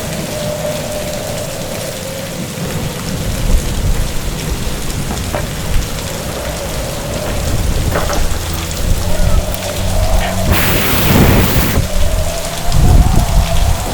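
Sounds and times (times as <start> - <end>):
heavy rain pouring: 0.0 - 13.9
thunder rumble: 0.0 - 13.9.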